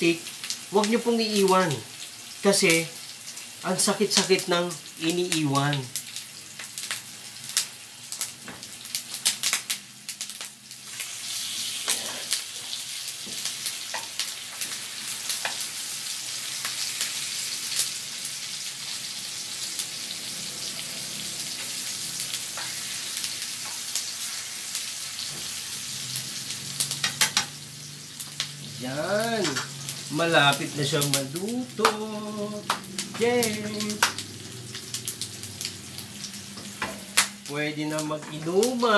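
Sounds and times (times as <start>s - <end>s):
pork sizzling in a pan: 0.0s - 38.9s.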